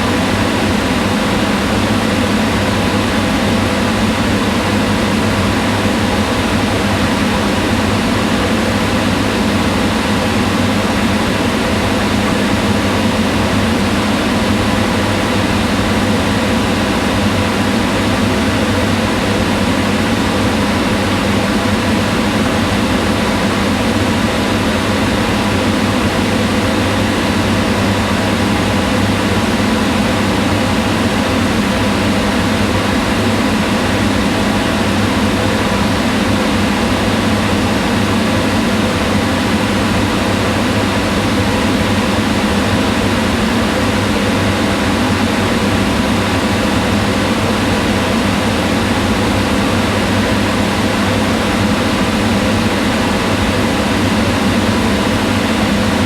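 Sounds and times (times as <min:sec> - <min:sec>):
range hood fan whirring: 0:00.0 - 0:56.0.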